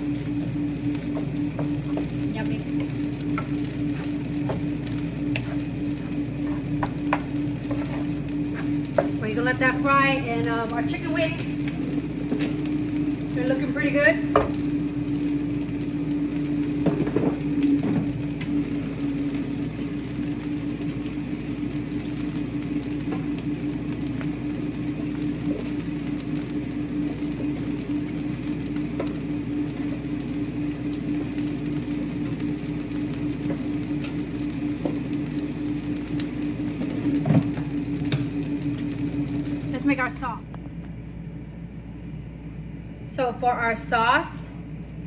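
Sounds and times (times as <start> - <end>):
kitchen fan humming: 0.0 - 45.0.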